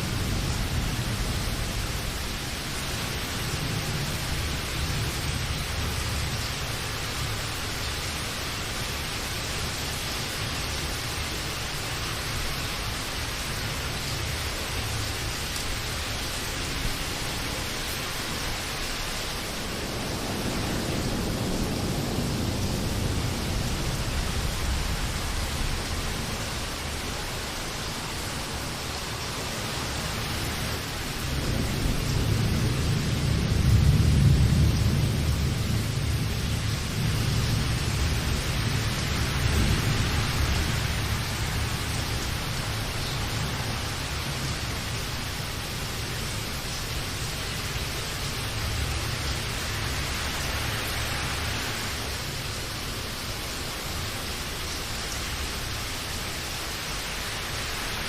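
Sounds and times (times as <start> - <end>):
low rumble of thunder: 0.0 - 52.6
steady rain falling: 0.0 - 58.0.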